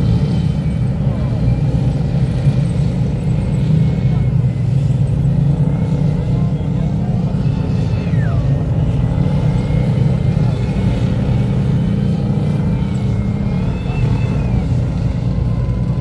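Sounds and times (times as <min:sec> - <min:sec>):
tracked vehicles rumbling past: 0:00.0 - 0:16.0.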